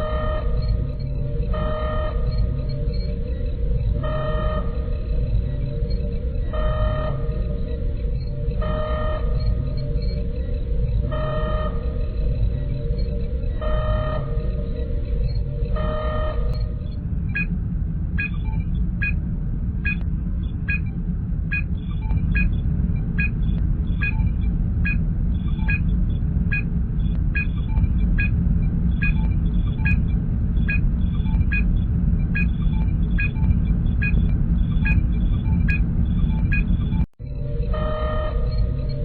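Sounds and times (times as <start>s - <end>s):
low engine hum: 0.0s - 39.0s.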